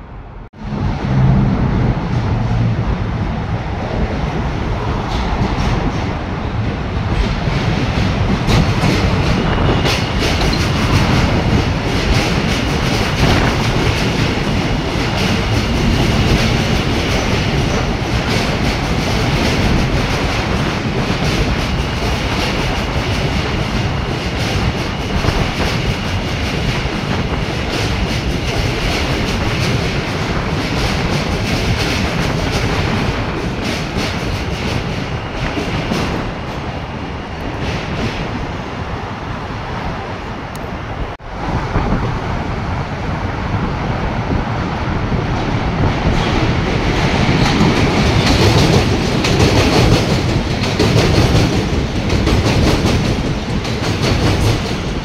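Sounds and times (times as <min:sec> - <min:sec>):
subway train rumble: 0:00.0 - 0:55.0.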